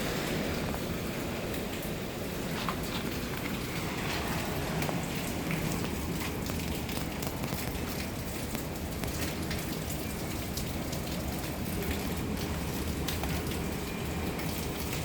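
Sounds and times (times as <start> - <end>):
heavy rain rushing: 0.0 - 15.0
raindrops ticking on hard surfaces: 0.0 - 15.0.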